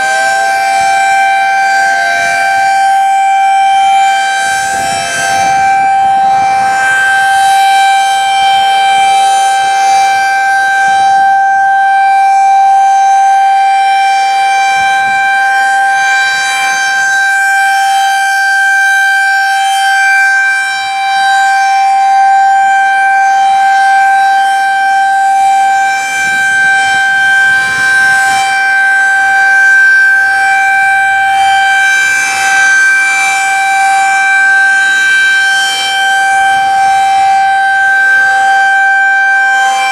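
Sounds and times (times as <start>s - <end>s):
high-pitched warning siren tone: 0.0s - 39.9s.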